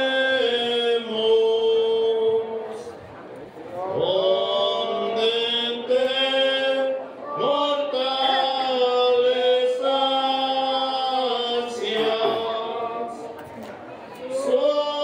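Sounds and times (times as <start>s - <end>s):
slow religious chant: 0.0s - 15.0s.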